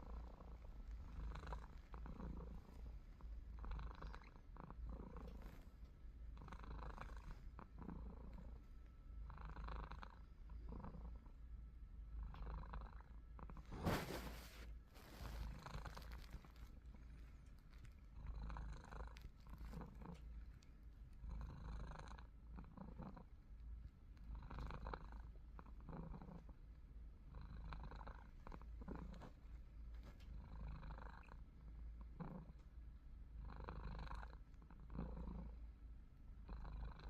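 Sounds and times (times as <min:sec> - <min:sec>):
cat snoring: 0:00.0 - 0:11.4, 0:12.2 - 0:17.2, 0:17.8 - 0:20.2, 0:21.2 - 0:23.4, 0:24.2 - 0:26.6, 0:27.2 - 0:29.4, 0:30.2 - 0:32.6, 0:33.4 - 0:35.7, 0:36.4 - 0:37.0.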